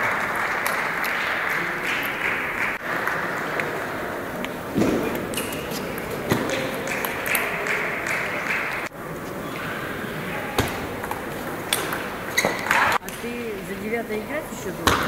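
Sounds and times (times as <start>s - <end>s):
murmur of spectators' voices: 0.0s - 15.0s.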